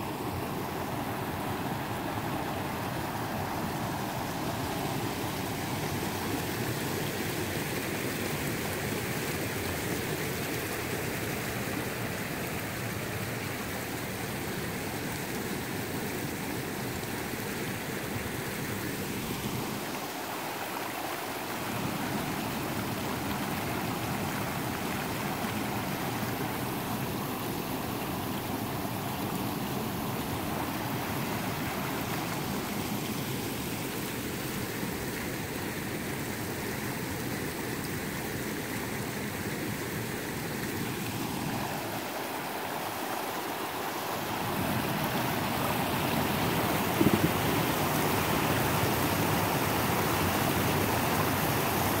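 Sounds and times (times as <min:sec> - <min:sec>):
floodwater rushing over rocks: 0:00.0 - 0:52.0.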